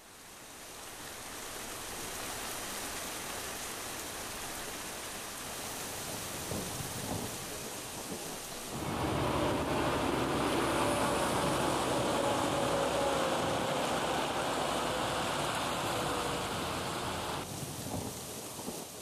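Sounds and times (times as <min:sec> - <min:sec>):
rain on wet asphalt road: 0:00.0 - 0:19.0
rain splashing into puddles: 0:00.0 - 0:19.0.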